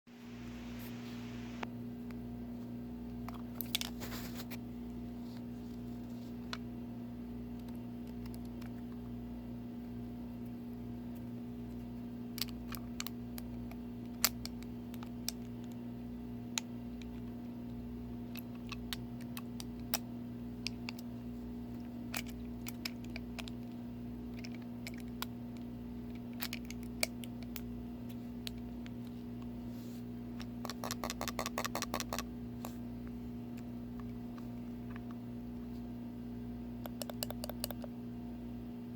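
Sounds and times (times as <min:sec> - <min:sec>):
low electrical hum: 0:00.1 - 0:38.9.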